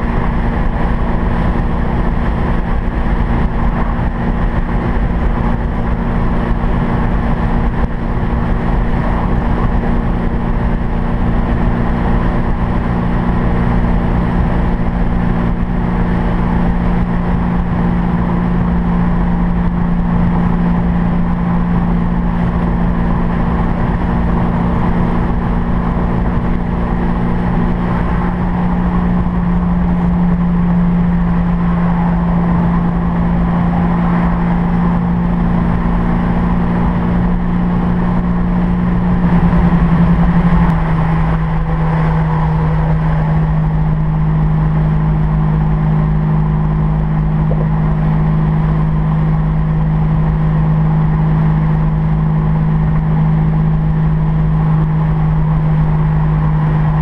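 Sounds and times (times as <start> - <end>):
car engine droning: 0.0 - 57.0
road and wind noise: 0.0 - 57.0.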